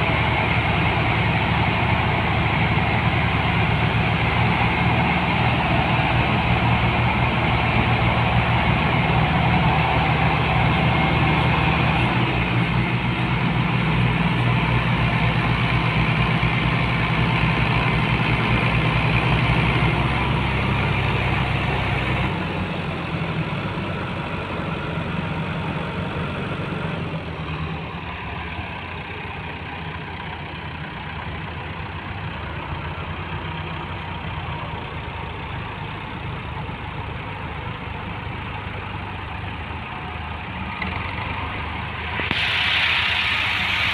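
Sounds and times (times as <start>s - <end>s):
diesel tractor engines under load: 0.0s - 43.9s.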